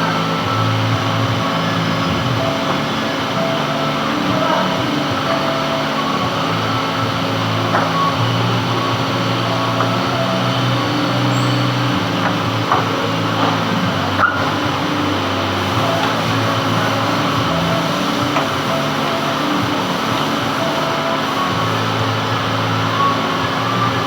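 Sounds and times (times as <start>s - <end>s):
metal lathe humming: 0.0s - 24.0s.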